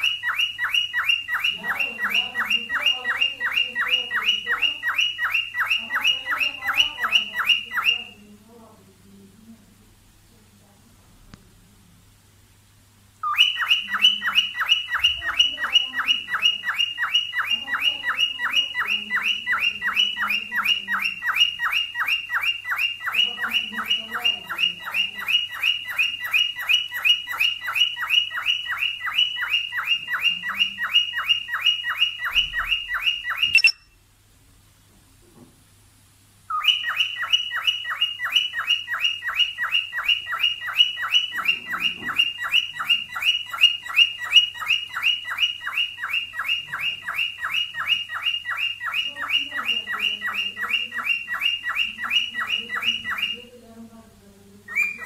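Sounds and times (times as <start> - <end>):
cockatiel sharp chirps: 0.0 - 8.2, 13.2 - 34.0, 36.5 - 53.4.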